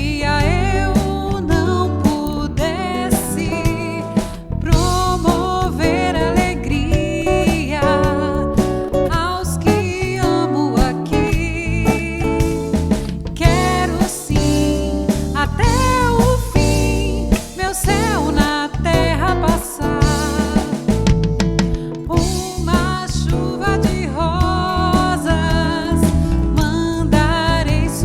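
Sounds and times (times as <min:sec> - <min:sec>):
person singing: 0:00.0 - 0:21.2, 0:21.8 - 0:28.0
band playing worship song: 0:00.0 - 0:28.0.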